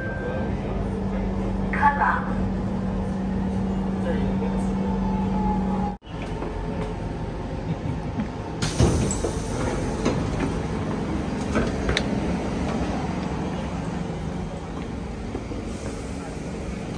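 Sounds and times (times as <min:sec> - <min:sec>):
train rumble: 0:00.0 - 0:16.9.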